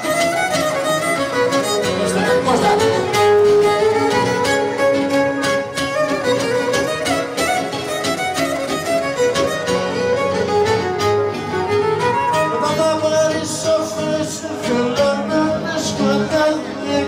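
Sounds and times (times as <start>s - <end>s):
folk dance music with violin: 0.0s - 17.0s.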